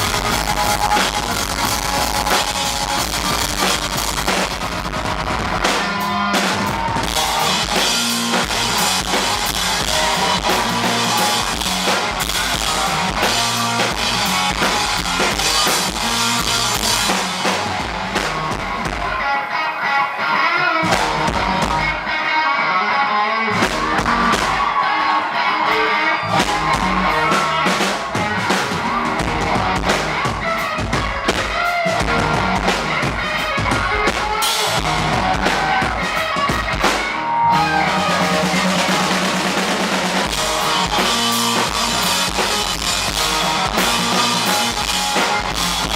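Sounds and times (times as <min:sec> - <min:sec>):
drum kit: 0:00.0 - 0:19.4, 0:20.8 - 0:22.2, 0:23.5 - 0:45.9
electric guitar: 0:00.0 - 0:45.9
rock band playing: 0:00.0 - 0:45.9.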